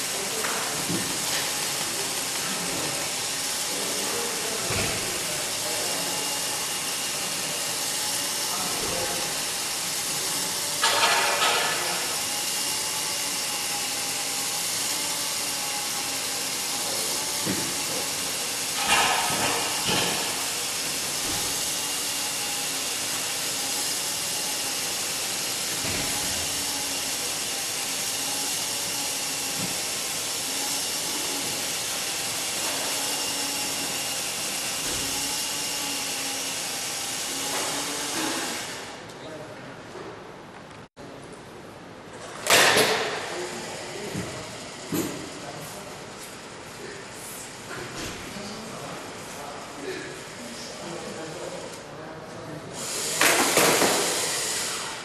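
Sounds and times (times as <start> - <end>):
mechanism whine: 0.0 - 39.4, 41.8 - 55.0.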